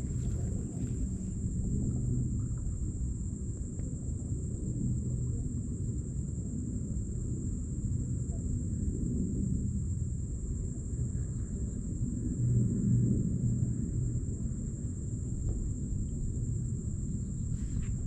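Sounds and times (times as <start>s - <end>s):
low steady rumble: 0.0s - 6.2s, 6.8s - 18.0s.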